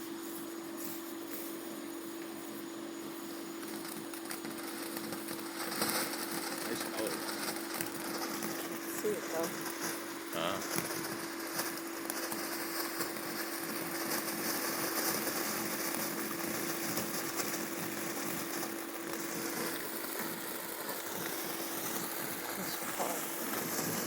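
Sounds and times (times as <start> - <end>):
firework fountain hissing and crackling: 0.0 - 24.0
steady hum: 0.0 - 24.0.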